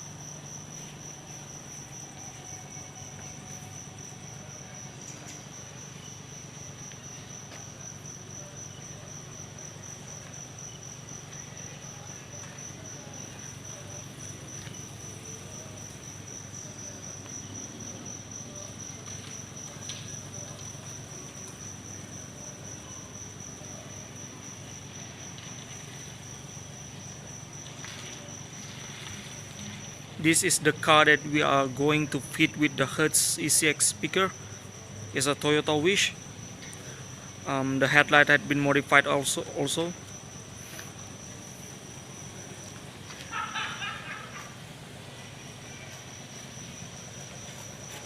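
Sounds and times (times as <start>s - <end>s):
insect chirping trill: 0.0s - 48.0s.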